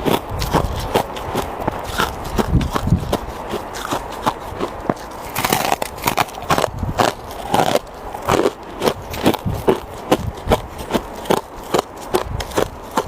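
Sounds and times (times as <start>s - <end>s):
person crunching ice: 0.0s - 13.0s.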